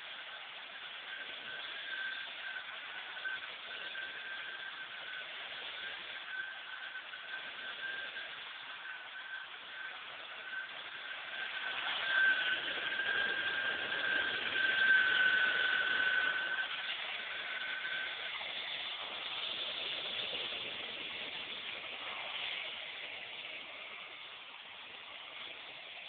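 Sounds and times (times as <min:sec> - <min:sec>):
vacuum cleaner air rushing: 0:00.0 - 0:26.0
vacuum motor whine: 0:00.0 - 0:26.0.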